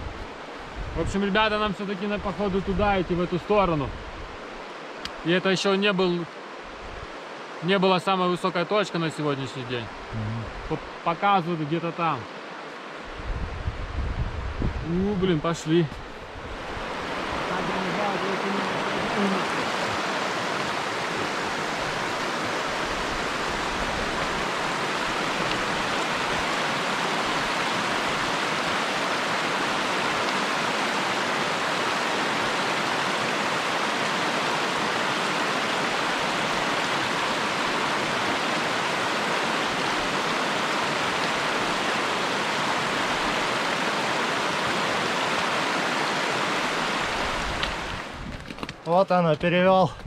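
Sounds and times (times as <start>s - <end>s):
stream rushing: 0.0s - 49.9s.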